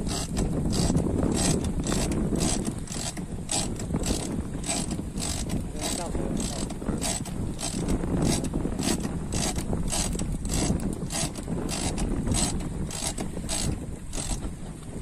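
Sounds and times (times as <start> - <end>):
steady low rumble: 0.0 - 15.0
fishing reel clicking: 0.1 - 14.5.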